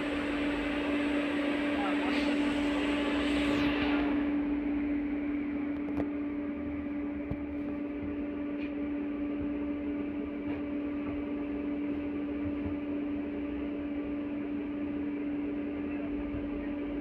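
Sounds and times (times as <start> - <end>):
low background rumble: 0.0 - 17.0
tram electrical hum: 0.0 - 17.0.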